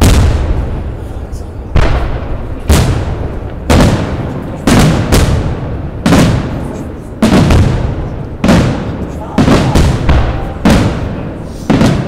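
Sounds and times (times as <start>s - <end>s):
firework shells booming: 0.0s - 12.0s.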